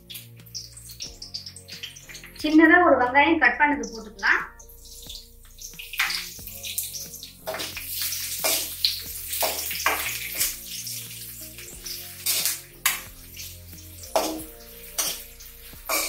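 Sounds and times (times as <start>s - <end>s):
onion sizzling in hot oil: 0.0s - 2.7s, 3.8s - 16.0s
background music: 0.0s - 16.0s
spoon scraping and knocking pan: 0.1s - 2.5s, 4.2s - 16.0s.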